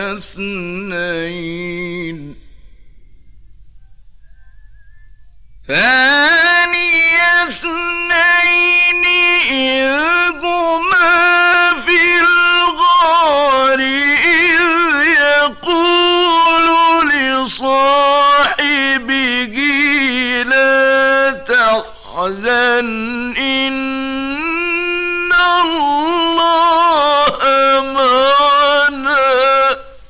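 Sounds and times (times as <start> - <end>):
man chanting: 0.0 - 2.7, 5.7 - 30.0.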